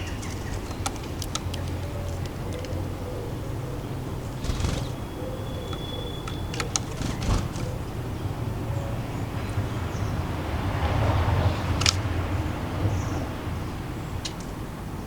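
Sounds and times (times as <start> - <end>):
distant city traffic rumble: 0.0 - 15.0.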